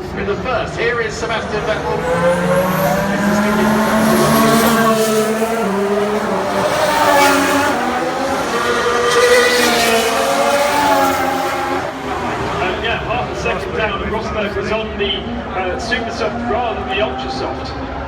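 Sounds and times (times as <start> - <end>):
racing car engine changing gear: 0.2 - 14.8.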